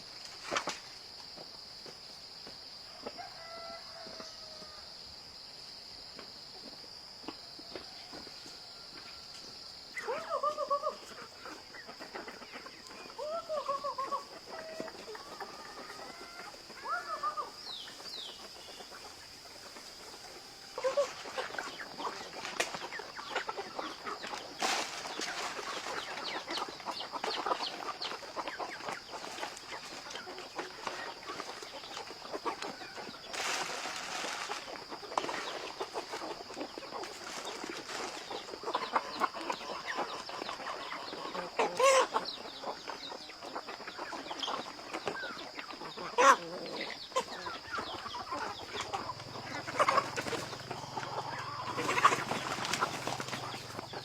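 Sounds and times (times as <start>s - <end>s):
chickens clucking: 0.3s - 54.0s.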